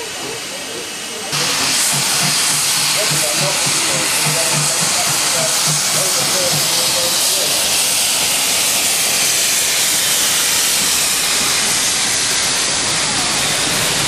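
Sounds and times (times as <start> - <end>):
steam hissing: 0.0 - 14.0
train passing: 0.0 - 14.0.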